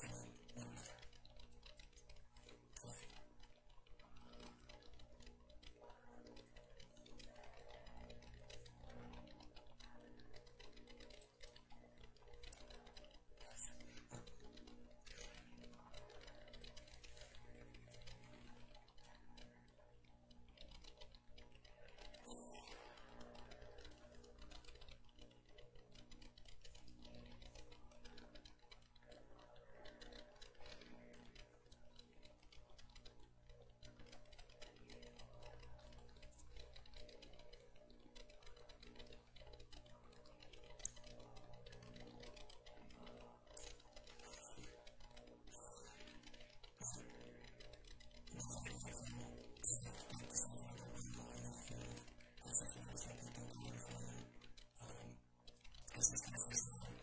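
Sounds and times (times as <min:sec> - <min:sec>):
faint steady hum: 0:00.0 - 0:57.0
small clicks: 0:00.0 - 0:57.0.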